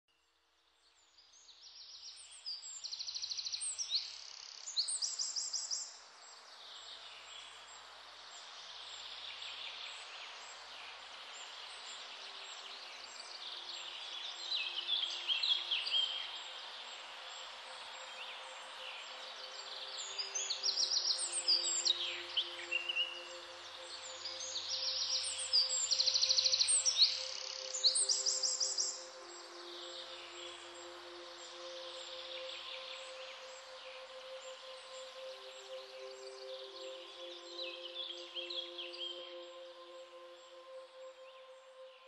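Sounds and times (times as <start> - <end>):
steady outdoor hiss: 0.1 - 42.0
songbirds singing and trilling: 0.9 - 42.0.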